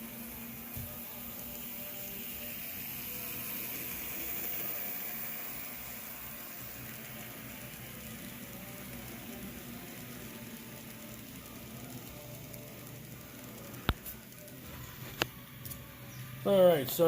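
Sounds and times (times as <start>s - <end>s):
model train wheels rumbling on rails: 0.0s - 17.0s.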